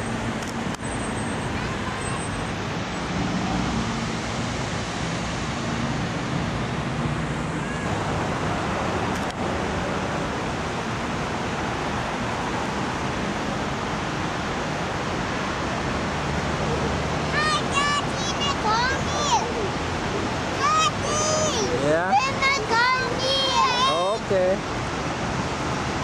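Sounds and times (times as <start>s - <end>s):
street traffic: 0.0s - 26.0s
waterfall rushing: 1.3s - 26.0s.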